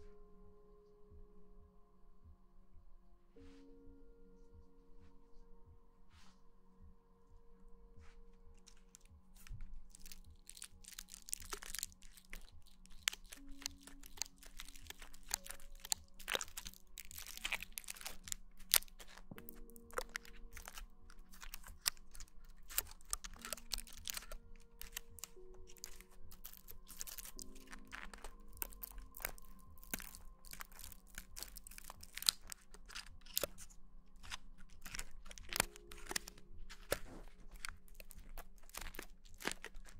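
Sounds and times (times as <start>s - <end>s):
soft music of held tones: 0.0s - 39.9s
crackling and crinkling: 7.4s - 39.9s.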